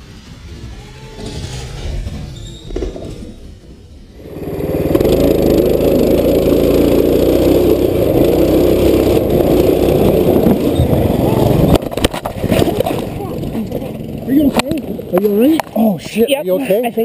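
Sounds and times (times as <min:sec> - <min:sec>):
small engine running loud: 0:00.0 - 0:15.8.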